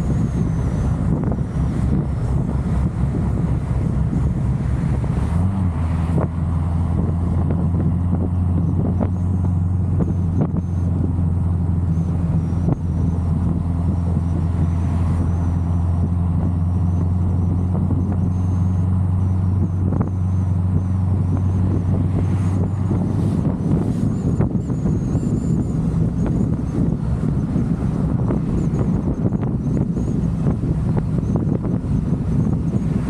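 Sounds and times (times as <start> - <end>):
car engine droning: 0.0 - 33.0
wind buffeting microphone: 0.0 - 33.0.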